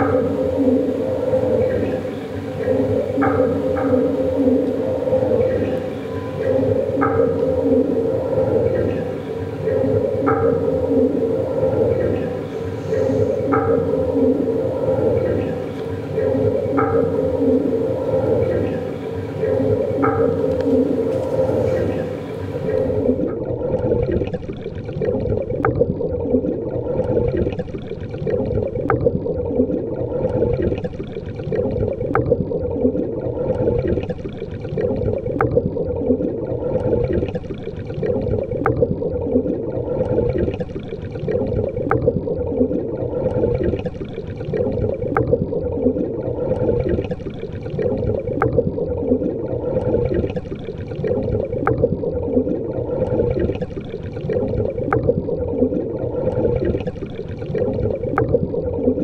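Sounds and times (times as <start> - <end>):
underwater rushing and bubbling: 0.0 - 59.0.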